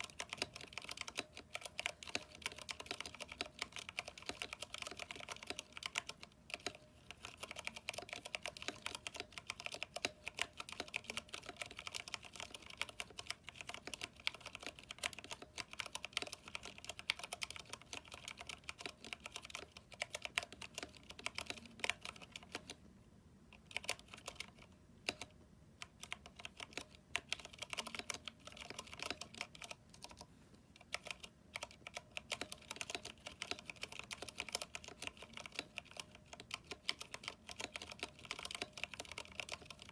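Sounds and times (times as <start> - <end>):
typing on mechanical keyboard: 0.0 - 22.8, 23.6 - 39.9.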